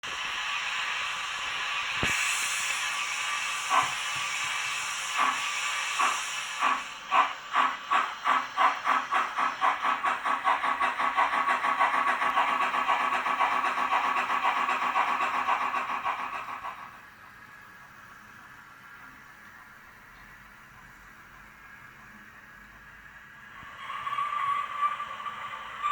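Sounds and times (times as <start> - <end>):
steam locomotive exhaust chuffs: 0.0 - 17.1, 20.7 - 25.9
steam hissing: 0.0 - 18.6, 20.8 - 25.9.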